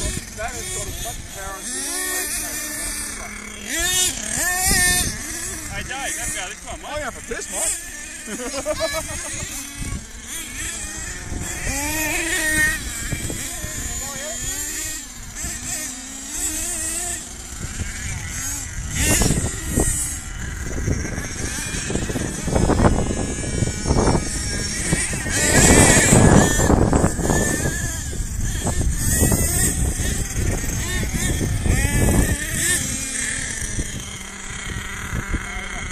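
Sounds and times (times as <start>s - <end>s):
small nitro engines whining: 0.0s - 35.9s.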